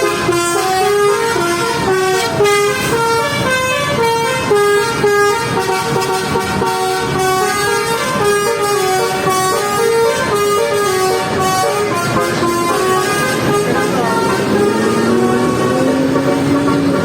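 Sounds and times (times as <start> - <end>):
multi-note air horn tune: 0.0 - 17.0.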